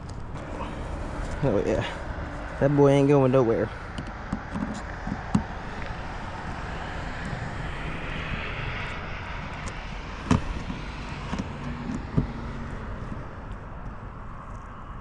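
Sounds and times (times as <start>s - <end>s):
distant engine drone: 0.0s - 15.0s.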